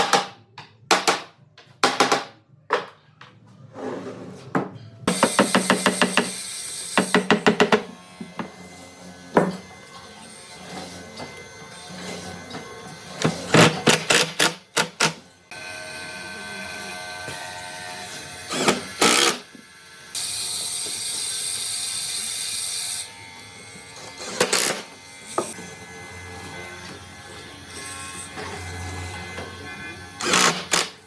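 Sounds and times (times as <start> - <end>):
small power tool running: 5.1 - 31.0.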